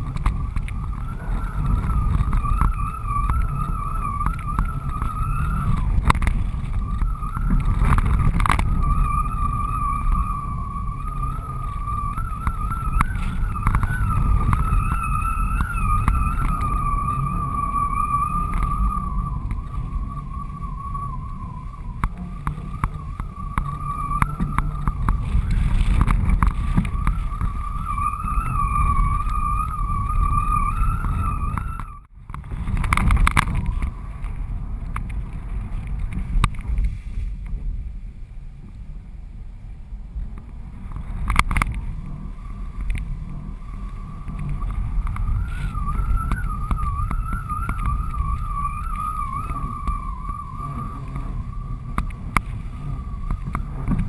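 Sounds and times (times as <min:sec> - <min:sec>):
wavering high whistle: 0:00.0 - 0:32.1, 0:42.1 - 0:54.0
sharp crackles: 0:00.0 - 0:37.6, 0:40.2 - 0:54.0
wind buffeting camera: 0:00.0 - 0:54.0.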